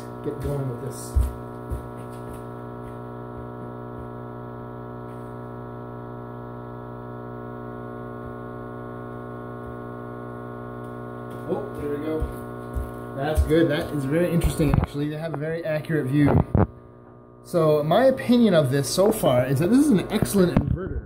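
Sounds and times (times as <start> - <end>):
power inverter humming: 0.0 - 21.0.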